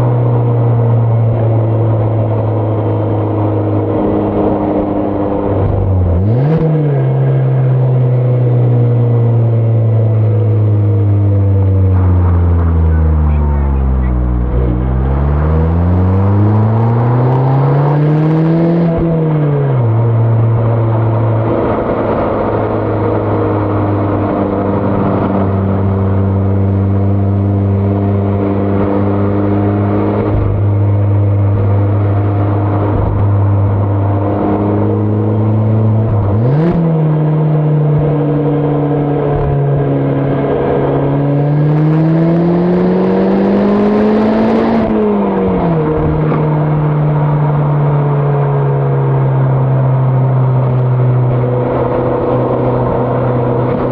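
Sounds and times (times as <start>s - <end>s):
car engine and exhaust: 0.0s - 53.9s.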